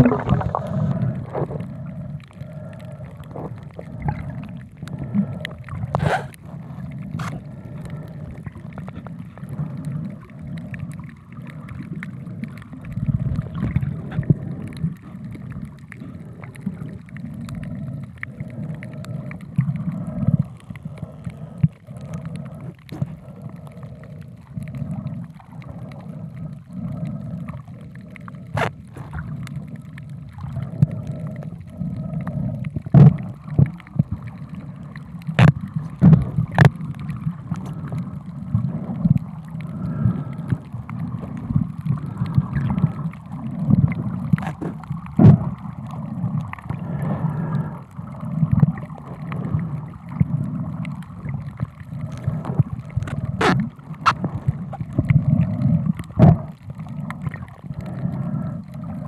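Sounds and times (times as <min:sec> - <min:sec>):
underwater water rumble: 0:00.0 - 0:59.0.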